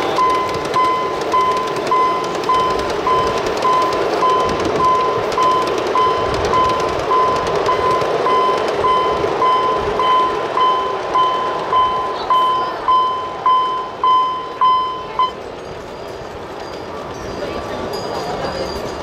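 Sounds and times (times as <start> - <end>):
electronic warning beeps: 0.0 - 15.4.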